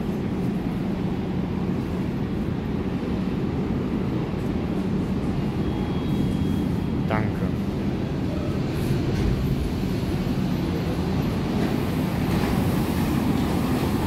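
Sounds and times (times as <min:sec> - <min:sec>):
train rumble and hum: 0:00.0 - 0:14.0.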